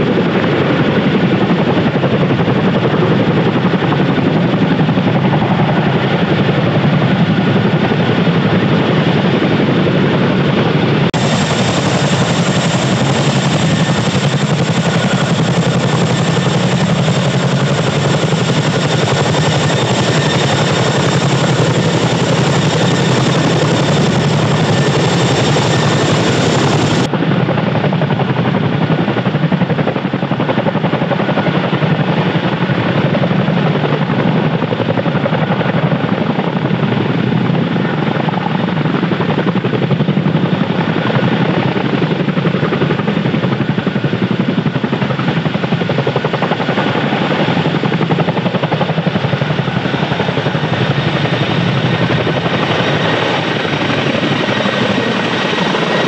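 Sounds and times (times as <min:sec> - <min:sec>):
faint turbine whine: 0:00.0 - 0:56.0
helicopter rotor blade chop: 0:00.0 - 0:56.0.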